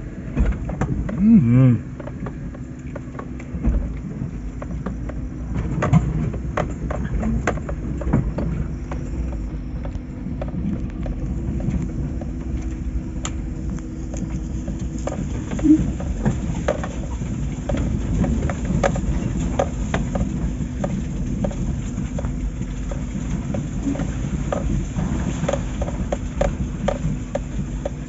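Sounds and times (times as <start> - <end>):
faint steady hum: 0.0 - 28.0
vehicle rumbling: 0.0 - 28.0.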